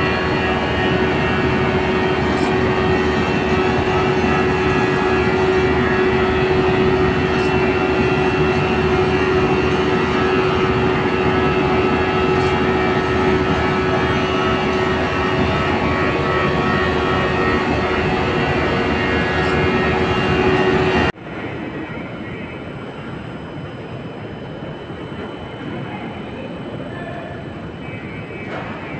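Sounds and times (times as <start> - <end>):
machinery roaring: 0.0 - 28.9
steady hum: 0.0 - 28.9.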